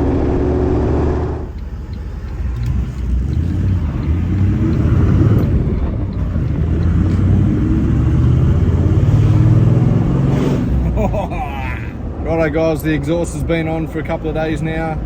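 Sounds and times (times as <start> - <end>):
throaty engine exhaust note: 0.0 - 12.5.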